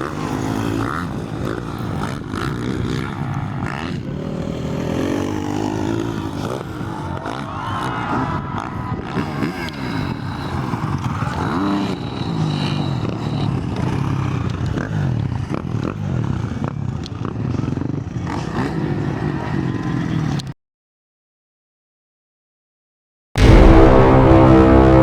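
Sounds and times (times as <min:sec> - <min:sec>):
dirt bike engines revving: 0:00.0 - 0:20.5.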